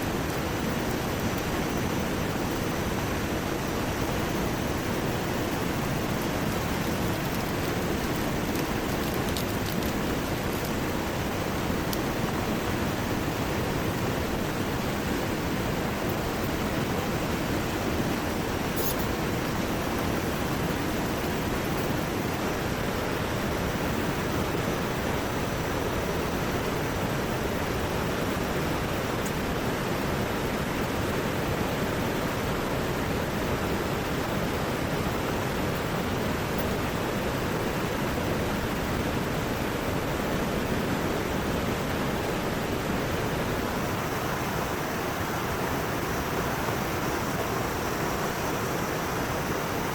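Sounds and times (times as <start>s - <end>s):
heavy rain: 0.0s - 49.9s
river rushing: 0.0s - 49.9s.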